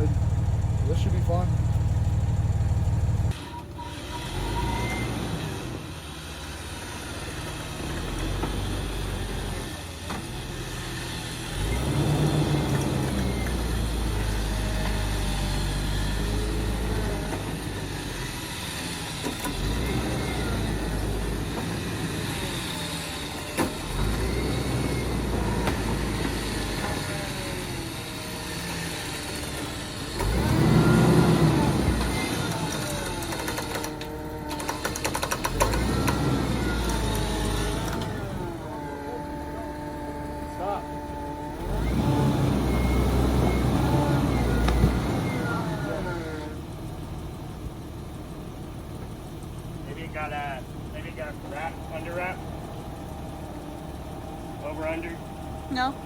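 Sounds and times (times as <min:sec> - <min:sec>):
vehicle engine rumbling: 0:00.0 - 0:56.0.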